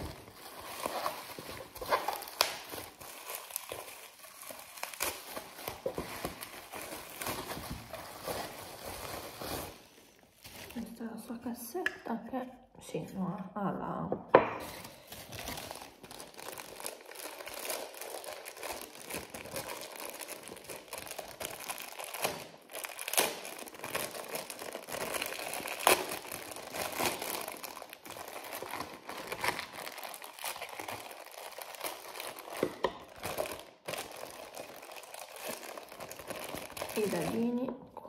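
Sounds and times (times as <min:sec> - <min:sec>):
plastic packaging crinkling: 0:00.0 - 0:11.0, 0:14.6 - 0:37.9.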